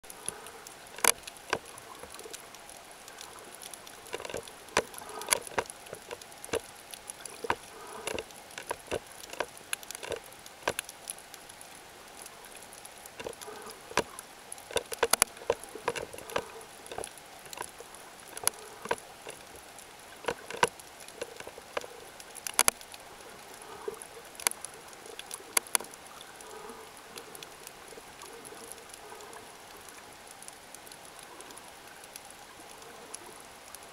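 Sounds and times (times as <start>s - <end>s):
steady hiss: 0.0s - 33.9s
underwater clicks and crackles: 0.0s - 33.9s.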